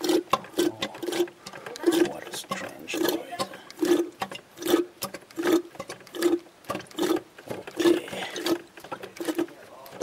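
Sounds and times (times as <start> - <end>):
hand pump gurgling suck: 0.0 - 10.0.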